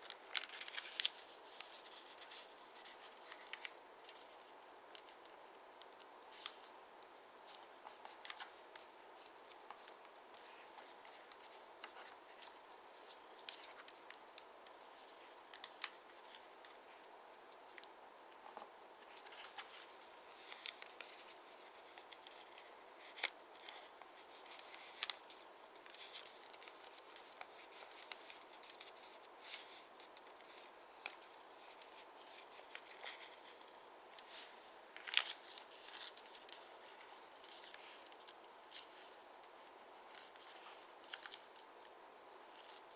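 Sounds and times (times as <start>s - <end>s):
paper rustling and creasing: 0.0s - 42.9s
steady hiss: 0.0s - 42.9s.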